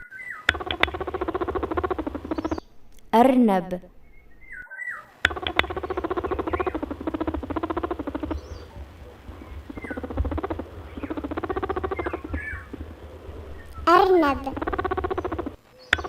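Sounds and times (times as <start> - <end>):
rabbit purring calls: 0.0 - 16.0.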